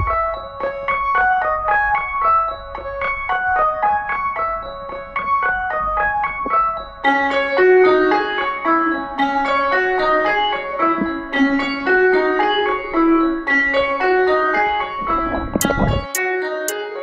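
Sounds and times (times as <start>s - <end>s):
piano music: 0.0s - 15.3s.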